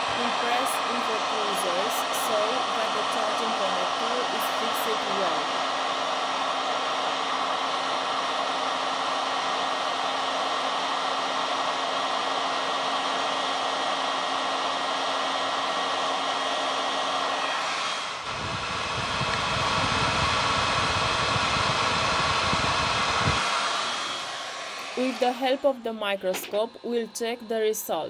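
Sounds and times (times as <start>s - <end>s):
hot air gun blowing: 0.0s - 25.6s.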